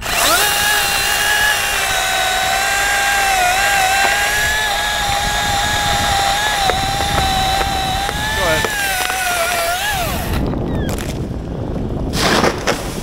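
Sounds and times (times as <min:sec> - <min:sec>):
chainsaw cutting: 0:00.0 - 0:10.5.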